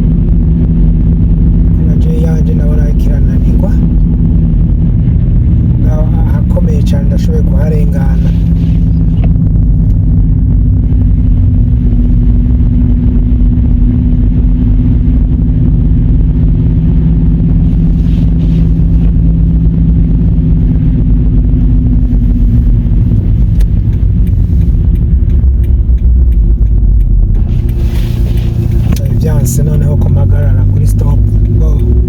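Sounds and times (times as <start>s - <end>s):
car engine running: 0.0s - 32.0s
car rumbling through snow: 0.0s - 32.0s.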